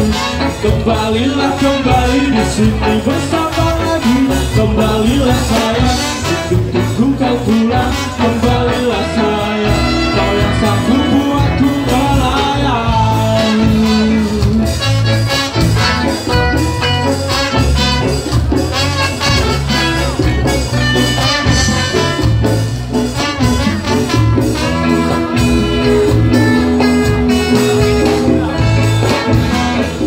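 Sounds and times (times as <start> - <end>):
horn section playing: 0.0 - 30.0
ska band playing: 0.0 - 30.0.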